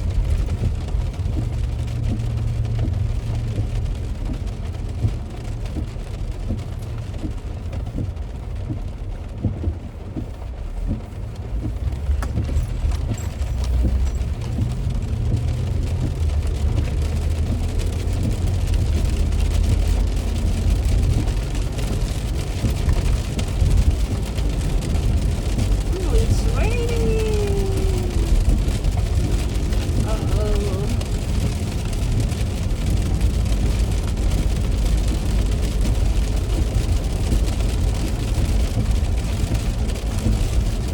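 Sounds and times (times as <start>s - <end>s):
heavy rain on a car: 0.0s - 40.9s
road and engine rumble: 0.0s - 40.9s.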